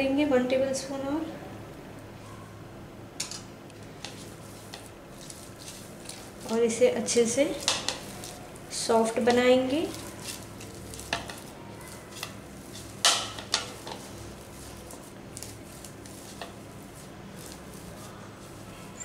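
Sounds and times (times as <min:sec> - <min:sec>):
steady low hum: 0:00.0 - 0:19.0
hands kneading soft dough: 0:03.7 - 0:19.0.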